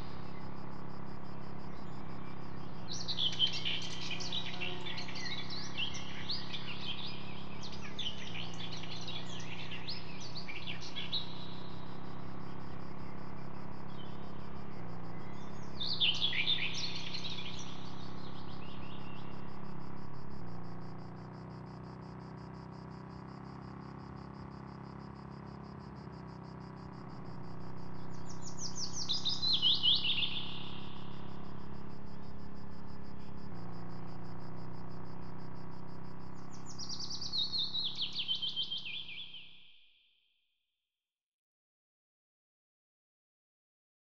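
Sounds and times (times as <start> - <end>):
insect trill: 0.0 - 40.0.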